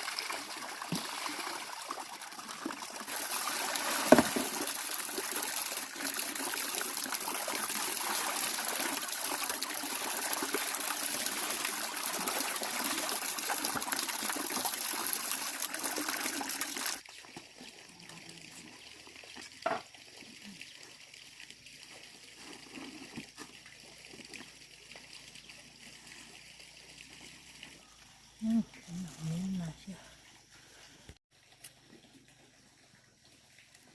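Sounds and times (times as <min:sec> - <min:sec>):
water trickling: 0:00.0 - 0:33.9.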